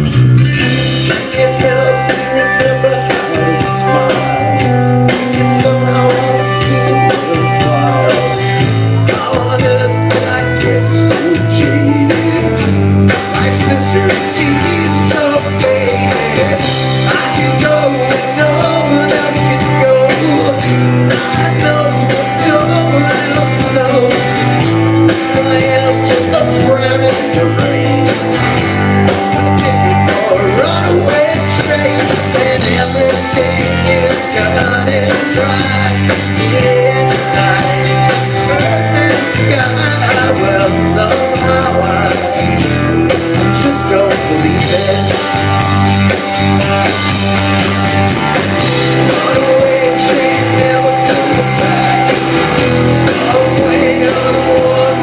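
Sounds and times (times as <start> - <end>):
bass guitar: 0.0 - 55.0
drums: 0.0 - 55.0
electric guitars: 0.0 - 55.0
person singing lead vocal: 0.4 - 46.1, 48.6 - 55.0.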